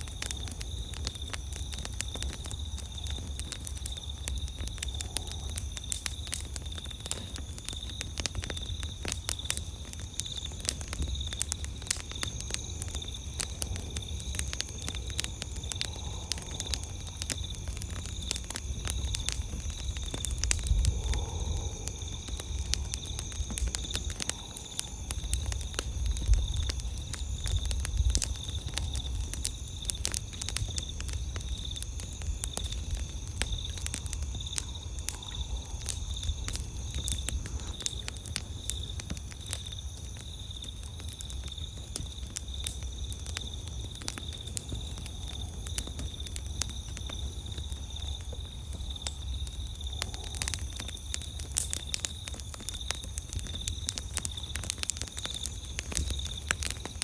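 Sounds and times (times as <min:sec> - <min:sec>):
campfire crackling and popping: 0:00.0 - 0:57.0
insects trilling: 0:00.0 - 0:57.0.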